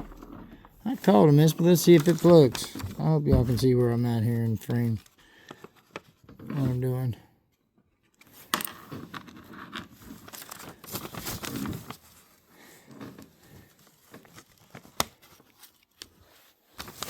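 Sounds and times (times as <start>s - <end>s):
paper rustling and crinkling: 0.9s - 6.9s, 8.0s - 17.0s.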